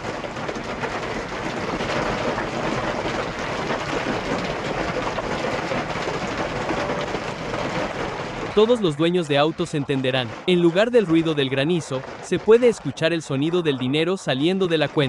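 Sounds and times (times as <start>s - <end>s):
hailstones pelting car metal: 0.0s - 15.0s.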